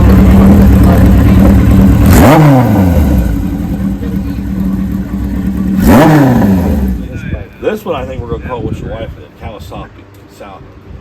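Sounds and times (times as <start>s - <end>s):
motorcycle engine idling and revving: 0.0s - 9.6s.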